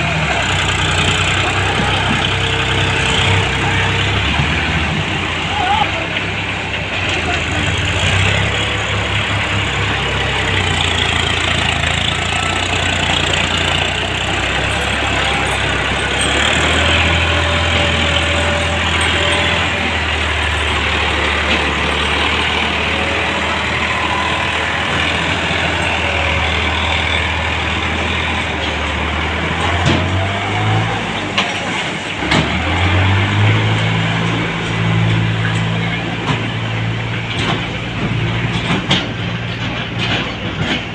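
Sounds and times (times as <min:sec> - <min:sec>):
tractor diesel engine at low revs: 0:00.0 - 0:40.9.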